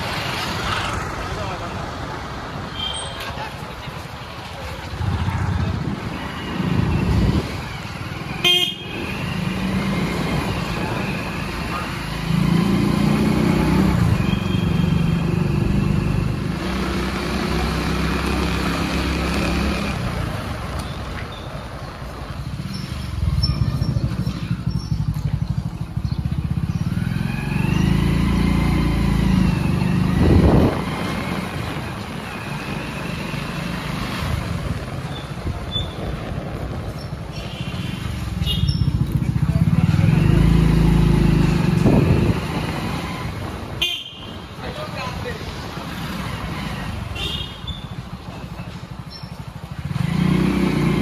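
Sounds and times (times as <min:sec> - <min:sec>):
street background: 0:00.0 - 0:51.0
vehicle engines passing: 0:00.0 - 0:51.0.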